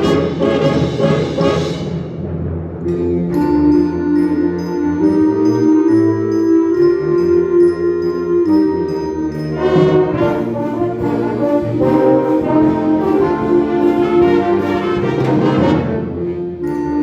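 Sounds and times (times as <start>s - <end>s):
brass chords: 0.0s - 17.0s
wind band playing: 0.0s - 17.0s.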